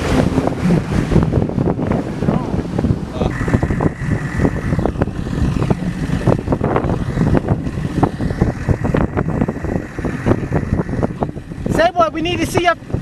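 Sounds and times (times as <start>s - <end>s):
motorboat engine: 0.0s - 13.0s
wind buffeting microphone: 0.0s - 13.0s.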